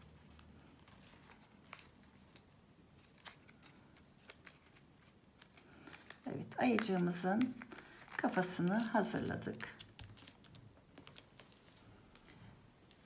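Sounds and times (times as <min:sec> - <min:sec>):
paper rustling: 0:00.0 - 0:13.0
folded paper clicks: 0:00.1 - 0:08.4, 0:09.5 - 0:12.4.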